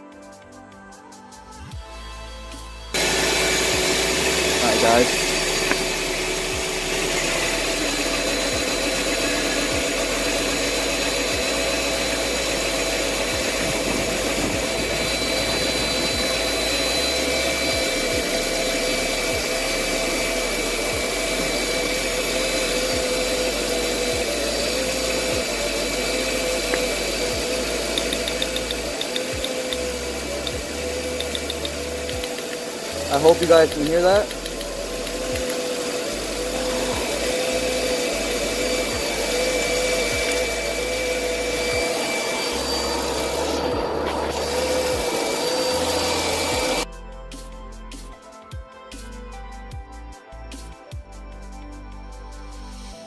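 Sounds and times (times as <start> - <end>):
engine idling unevenly: 3.0 - 46.8.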